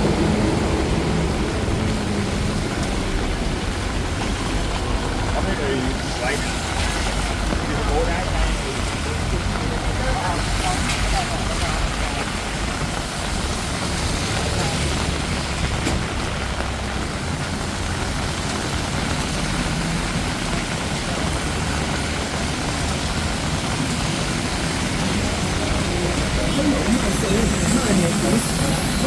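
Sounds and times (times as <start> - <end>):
heavy rain pouring: 0.0 - 29.0
road traffic rumble: 0.0 - 29.0.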